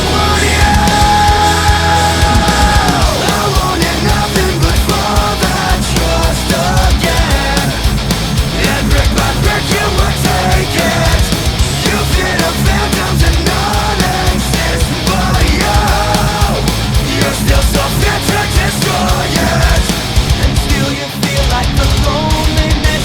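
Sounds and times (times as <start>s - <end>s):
distorted guitars: 0.0s - 23.0s
heavy rock music: 0.0s - 23.0s
person singing: 0.0s - 23.0s.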